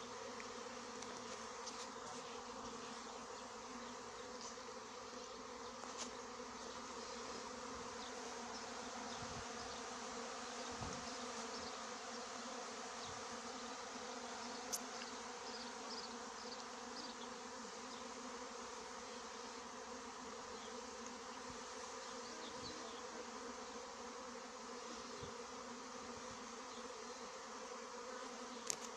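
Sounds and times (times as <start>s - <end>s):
bee swarm buzzing: 0.0s - 28.9s.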